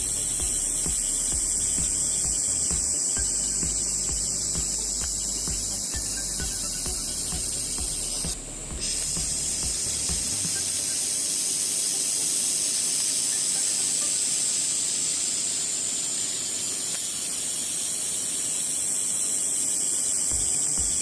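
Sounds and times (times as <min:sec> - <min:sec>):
high-pitched hiss: 0:00.0 - 0:21.0.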